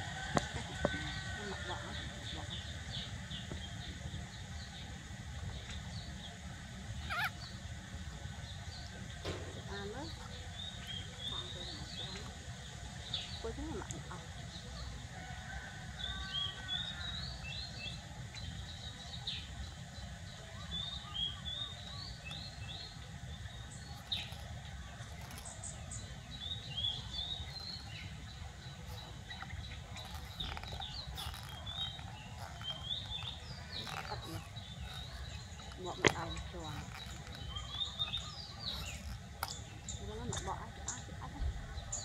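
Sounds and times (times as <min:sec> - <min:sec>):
steady low hum: 0:00.0 - 0:42.0
small birds chirping: 0:00.2 - 0:42.0.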